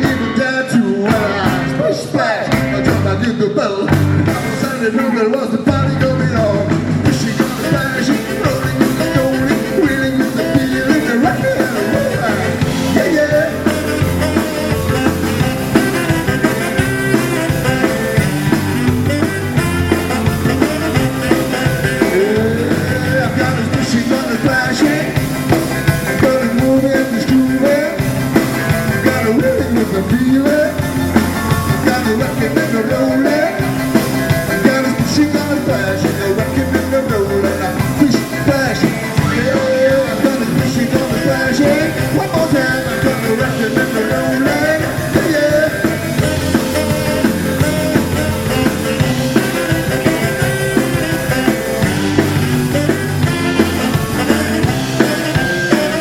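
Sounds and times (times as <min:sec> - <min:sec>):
rock band playing live: 0:00.0 - 0:56.0
steady drum beat: 0:00.0 - 0:56.0.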